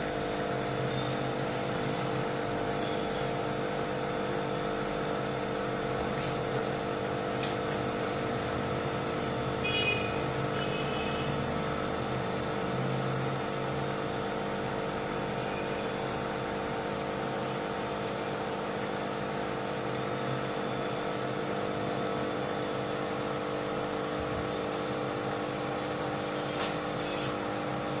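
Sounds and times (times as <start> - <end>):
mechanical hum with held tones: 0.0 - 28.0.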